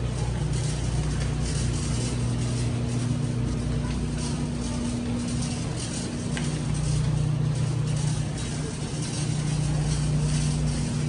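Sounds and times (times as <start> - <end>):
refrigerated cases humming: 0.0 - 11.0.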